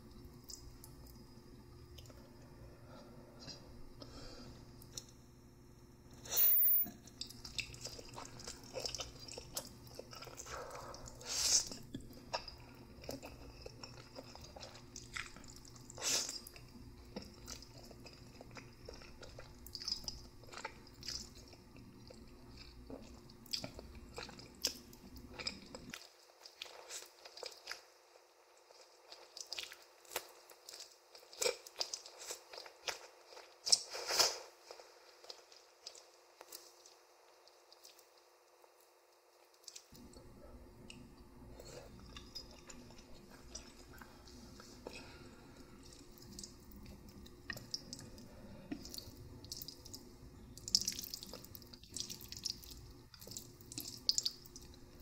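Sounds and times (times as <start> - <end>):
low background hum: 0.0 - 55.0
person chewing noodles: 7.2 - 38.8, 39.4 - 55.0.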